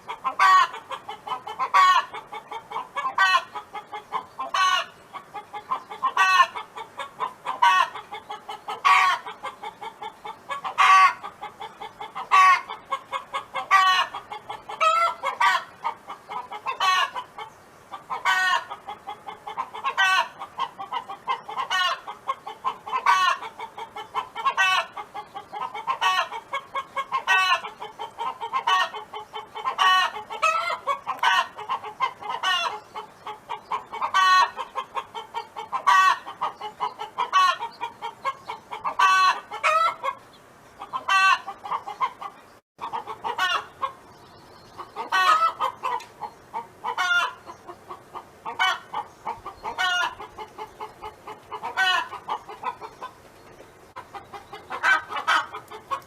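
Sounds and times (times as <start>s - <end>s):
hen clucking: 0.0s - 56.0s.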